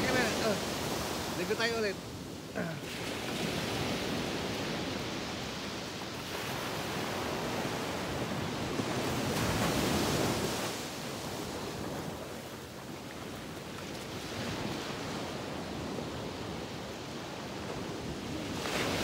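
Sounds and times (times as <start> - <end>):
ocean surf breaking on sand: 0.0 - 19.0.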